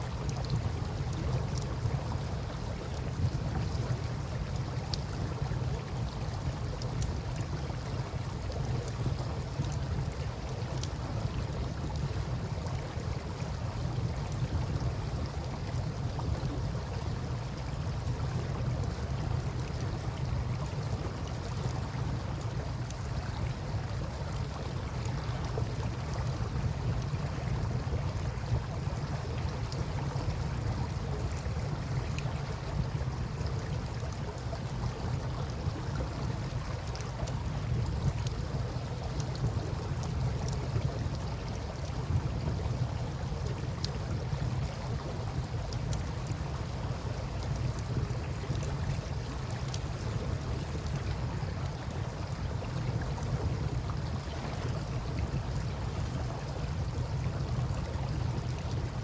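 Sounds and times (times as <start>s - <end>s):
flowing river water: 0.0s - 59.0s
campfire crackling and popping: 0.2s - 55.4s.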